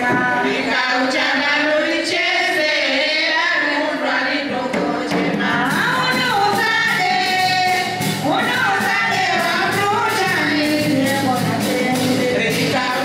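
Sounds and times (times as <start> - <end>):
women singing in chorus: 0.0 - 13.0.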